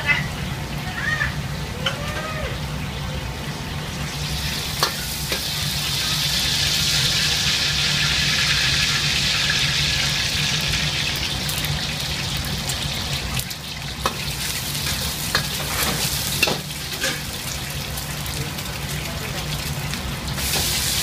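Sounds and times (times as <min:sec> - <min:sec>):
egg sizzling in hot oil: 0:04.0 - 0:21.0.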